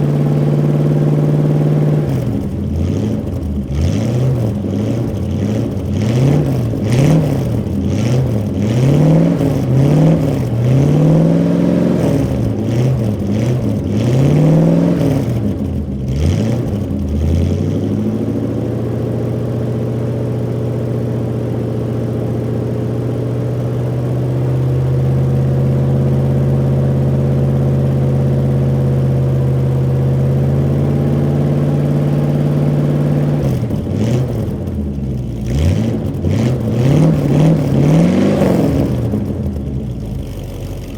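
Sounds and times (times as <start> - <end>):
truck engine revving and idling: 0.0 - 40.9.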